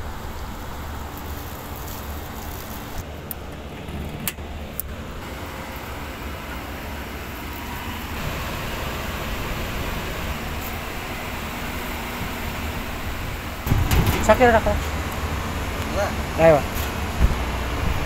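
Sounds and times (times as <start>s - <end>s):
air-conditioning machinery running: 0.0s - 18.0s.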